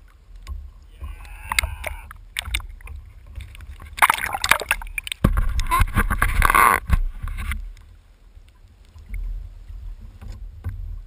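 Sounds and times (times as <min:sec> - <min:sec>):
low muffled rumble: 0:00.0 - 0:11.0
water splashing and sloshing: 0:00.0 - 0:11.0.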